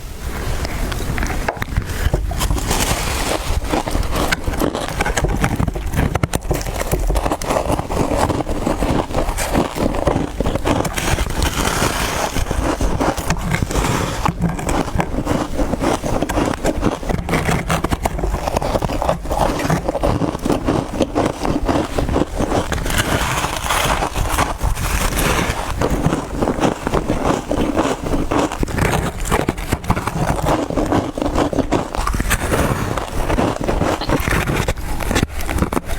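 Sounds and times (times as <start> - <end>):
chewing crunchy frost: 0.5 - 35.9.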